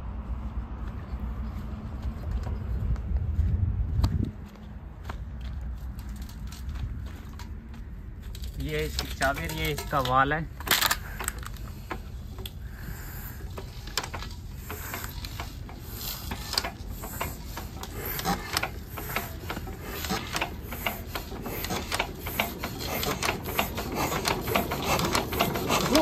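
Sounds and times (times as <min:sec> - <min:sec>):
diesel engine clattering: 0:04.4 - 0:26.0.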